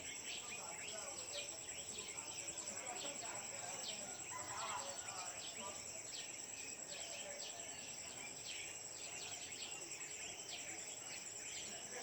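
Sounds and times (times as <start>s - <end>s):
cricket-like insect trill: 0.0s - 12.0s.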